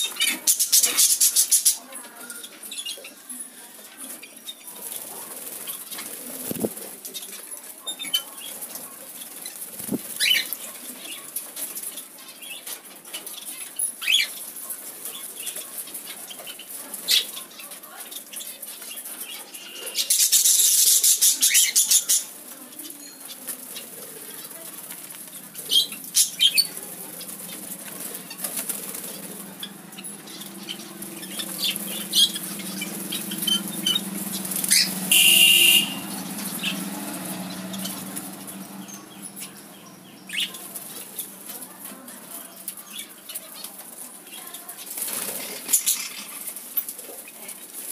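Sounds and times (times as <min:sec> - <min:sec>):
birds fluttering wings: 0:03.8 - 0:47.9.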